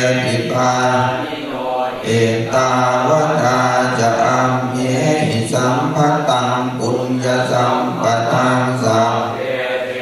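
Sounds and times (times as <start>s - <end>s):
monks chanting: 0.0s - 10.0s.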